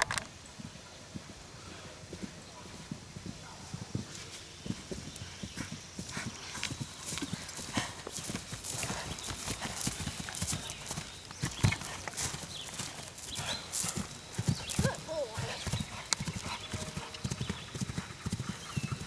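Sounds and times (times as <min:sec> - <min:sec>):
horse hoofbeats galloping: 0:00.6 - 0:19.0.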